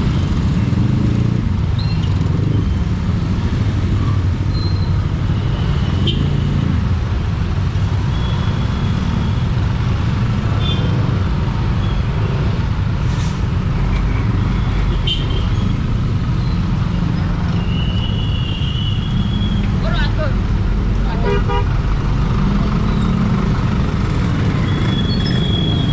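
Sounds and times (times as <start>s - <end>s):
motorcycle engine and road rumble: 0.0s - 25.9s.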